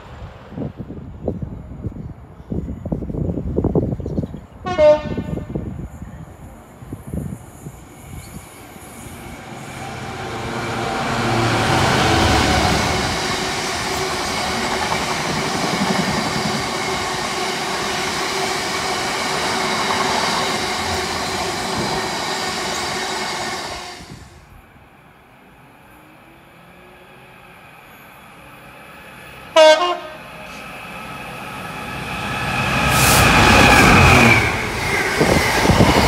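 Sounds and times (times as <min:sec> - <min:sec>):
freight train rumbling and clattering: 0:00.0 - 0:24.5, 0:31.3 - 0:36.0.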